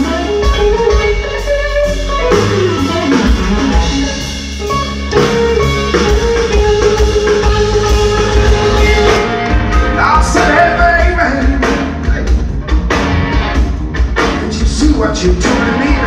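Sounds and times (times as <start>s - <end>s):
drum kit: 0.0s - 16.0s
electric bass: 0.0s - 16.0s
electric guitar: 0.0s - 16.0s.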